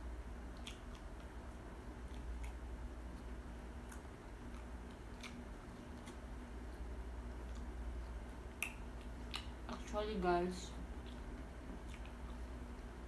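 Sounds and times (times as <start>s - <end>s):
low steady hum: 0.0s - 13.0s
crunchy chewing: 0.5s - 9.7s, 10.9s - 13.0s.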